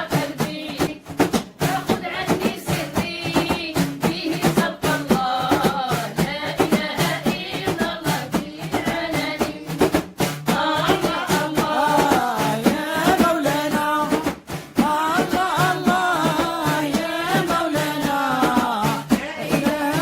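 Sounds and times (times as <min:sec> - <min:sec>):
devotional singing: 0:00.0 - 0:20.0
steady drum beat: 0:00.0 - 0:20.0.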